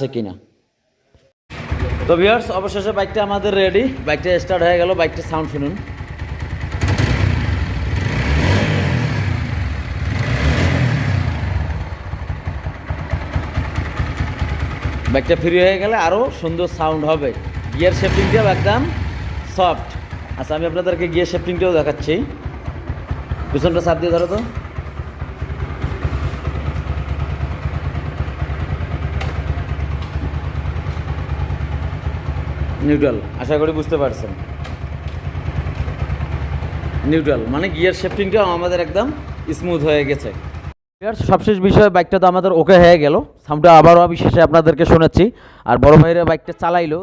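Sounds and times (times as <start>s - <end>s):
motorcycle engine revving: 1.5s - 40.8s.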